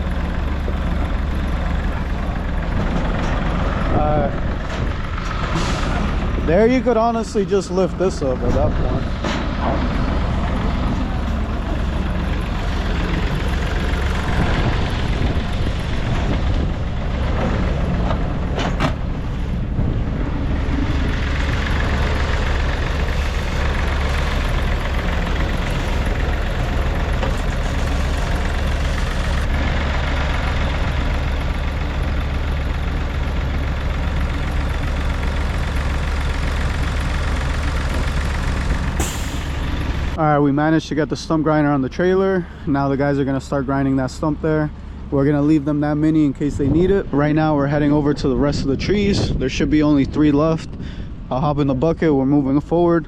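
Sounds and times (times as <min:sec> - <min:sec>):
heavy engine idling: 0:00.0 - 0:49.3.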